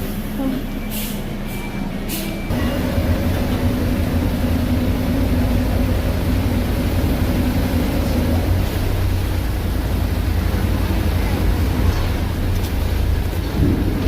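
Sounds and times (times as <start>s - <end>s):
boat engine droning: 2.5s - 14.0s.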